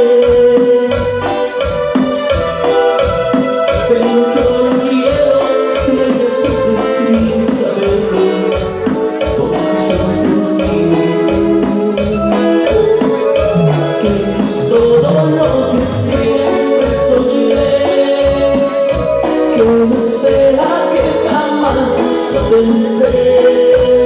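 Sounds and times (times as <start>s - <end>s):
live dance band music: 0.0s - 24.0s.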